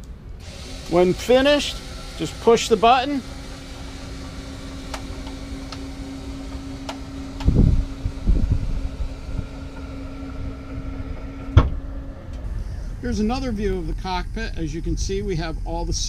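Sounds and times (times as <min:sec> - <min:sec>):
hydraulic lift humming: 0:00.0 - 0:16.0.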